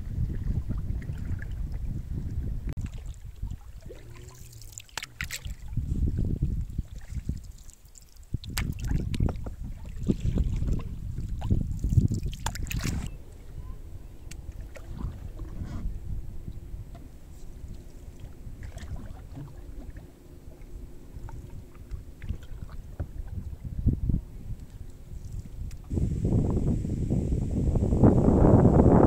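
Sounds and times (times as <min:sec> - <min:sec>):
wind on microphone: 0:00.0 - 0:07.6, 0:08.3 - 0:29.0
water sounds: 0:00.0 - 0:29.0.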